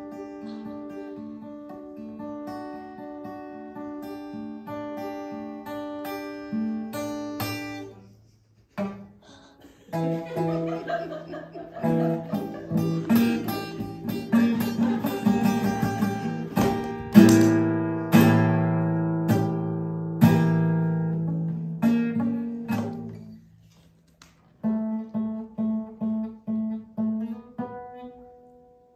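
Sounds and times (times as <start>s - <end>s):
acoustic guitar: 0.0s - 28.9s.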